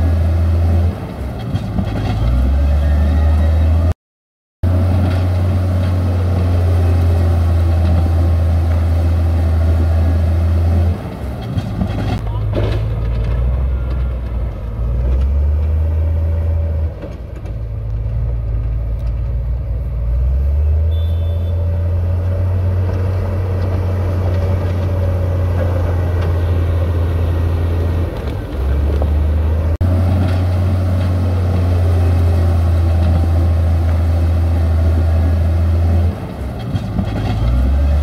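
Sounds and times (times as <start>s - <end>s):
diesel machinery rumbling: 0.0s - 4.0s, 4.6s - 38.0s.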